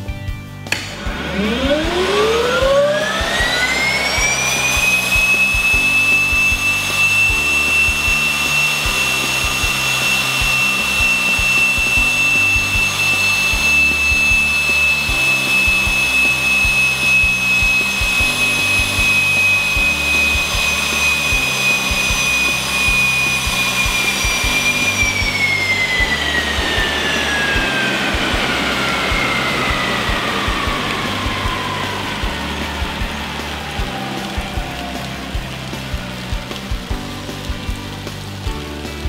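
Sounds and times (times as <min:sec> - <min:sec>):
turboprop compressor whine: 0:00.7 - 0:37.9.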